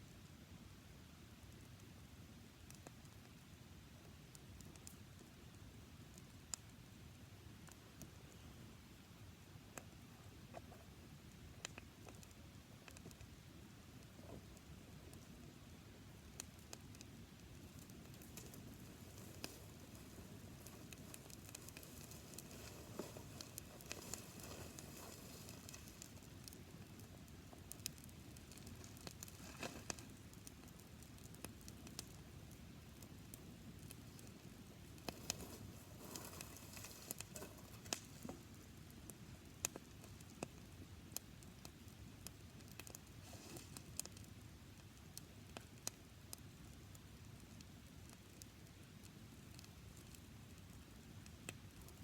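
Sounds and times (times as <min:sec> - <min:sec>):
campfire crackling: 0:00.0 - 0:52.0
faint hiss: 0:00.0 - 0:52.0.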